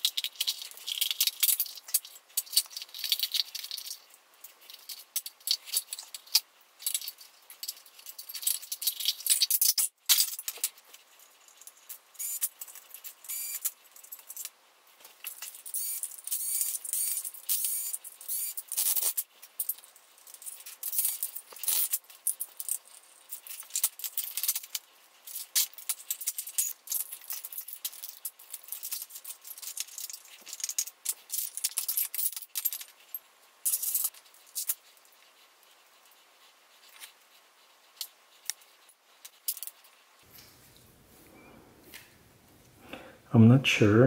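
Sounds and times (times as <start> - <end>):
metal tools clicking and scraping: 0.0 - 35.0, 38.0 - 40.0.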